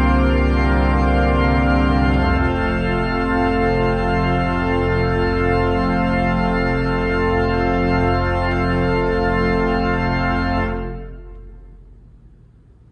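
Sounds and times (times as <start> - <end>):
church organ chord: 0.0 - 12.1.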